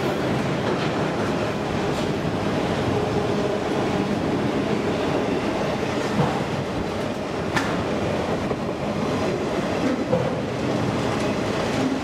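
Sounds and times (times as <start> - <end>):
freight train passing: 0.0 - 12.0
steel wheels rattling on rails: 0.0 - 12.0.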